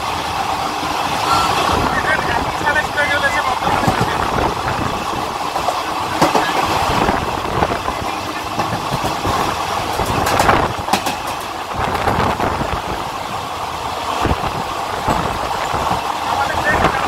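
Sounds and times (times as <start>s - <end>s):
train wheels rumbling and rattling: 0.0s - 17.0s.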